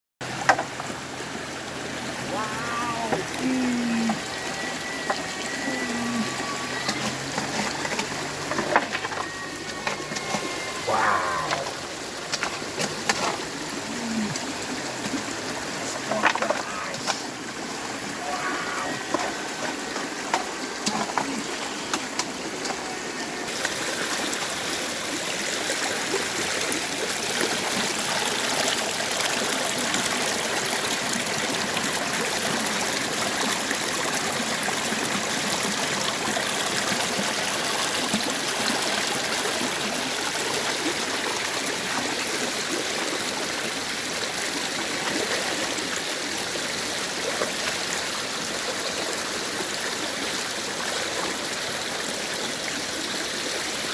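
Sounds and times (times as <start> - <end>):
running water rushing: 0.2 - 53.9.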